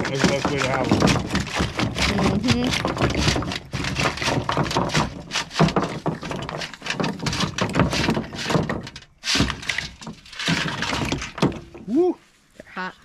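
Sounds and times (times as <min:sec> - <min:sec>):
oyster shells clattering: 0:00.0 - 0:11.8.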